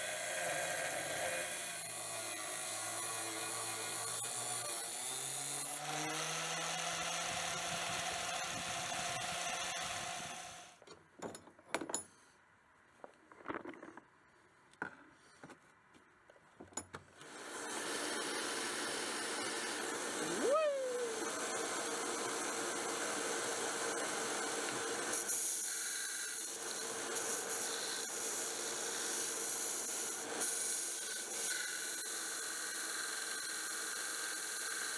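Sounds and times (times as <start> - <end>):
angle grinder cutting steel: 0.0 - 10.6, 17.2 - 34.9.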